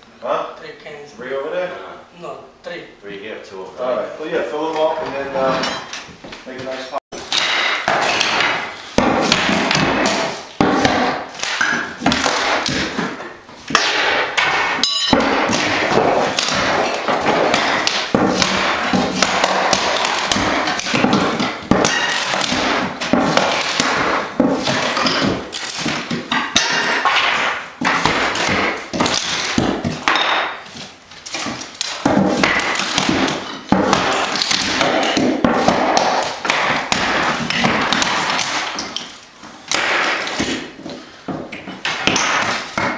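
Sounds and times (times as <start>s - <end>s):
wood flooring knocking and clattering: 7.3s - 30.6s, 31.3s - 42.9s.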